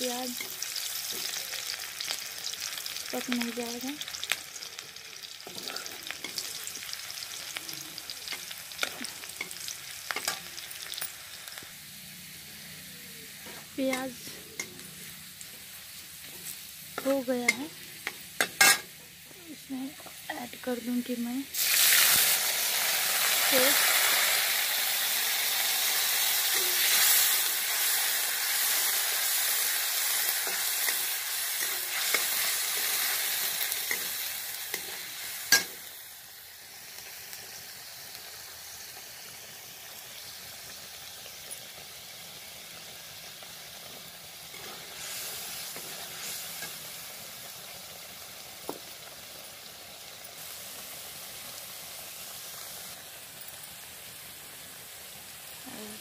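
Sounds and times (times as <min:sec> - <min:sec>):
onions frying in oil: 0:00.0 - 0:56.0.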